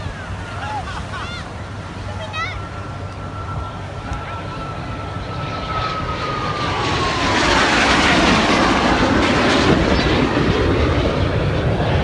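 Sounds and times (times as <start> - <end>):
jets passing overhead: 0.0 - 12.0.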